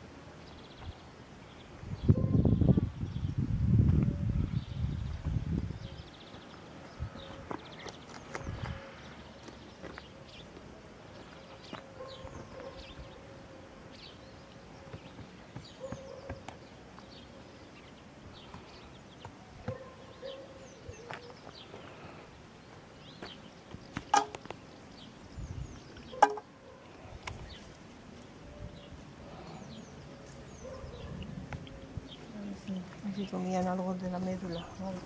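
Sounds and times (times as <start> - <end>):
small birds chirping: 0.3 - 3.5, 4.4 - 35.0.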